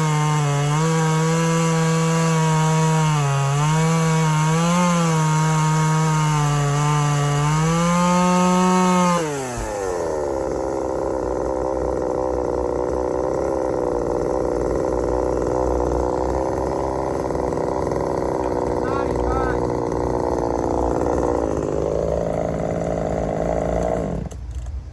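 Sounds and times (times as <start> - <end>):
chainsaw running: 0.0 - 24.9.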